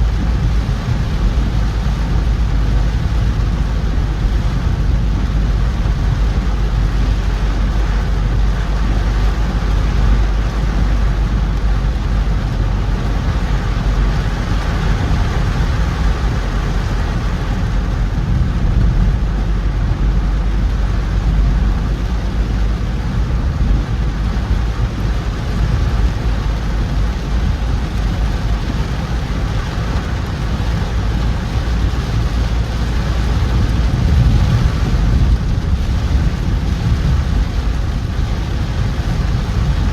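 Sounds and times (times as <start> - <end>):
car engine and road noise: 0.0 - 39.9
rain and wet tyres hissing: 0.0 - 39.9.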